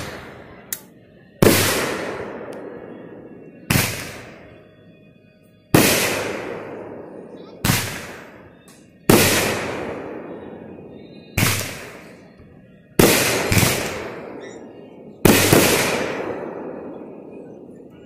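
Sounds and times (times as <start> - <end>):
firework booms echoing: 1.4 - 4.5, 5.8 - 12.3, 12.9 - 17.9.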